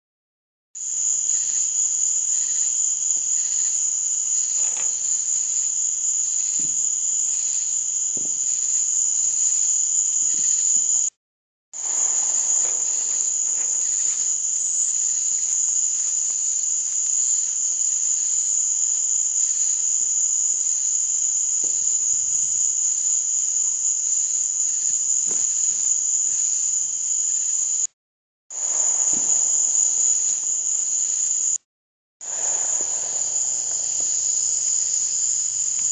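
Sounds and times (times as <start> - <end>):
night insects chirring: 0.8 - 11.1, 11.8 - 27.9, 28.5 - 31.6, 32.2 - 35.9.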